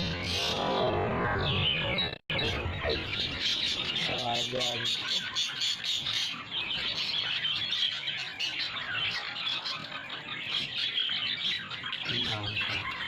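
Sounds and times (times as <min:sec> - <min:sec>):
budgerigars chattering: 0:01.6 - 0:13.0.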